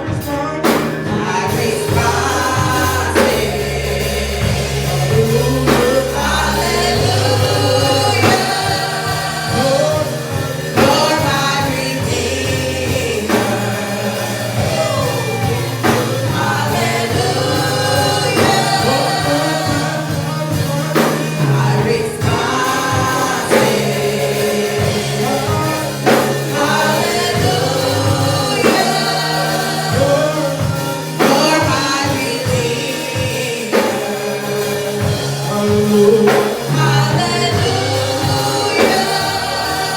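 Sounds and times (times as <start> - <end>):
band with bass and drums: 0.0 - 39.9
choir singing gospel: 0.0 - 39.9.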